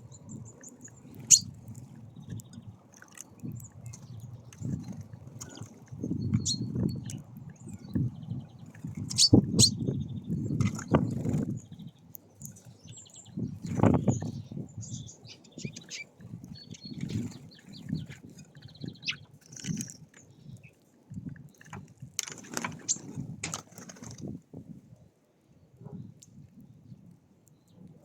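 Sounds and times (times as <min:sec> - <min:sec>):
songbirds chirping and trilling: 0:00.0 - 0:28.0.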